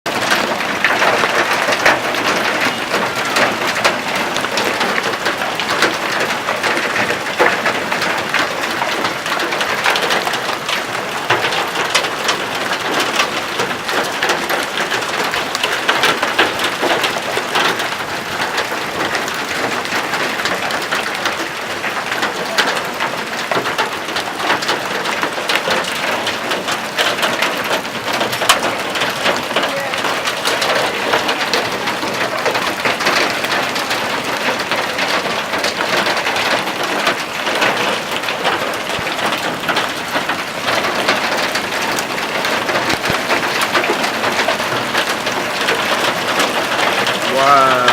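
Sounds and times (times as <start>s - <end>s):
hail pelting surfaces: 0.1s - 47.9s.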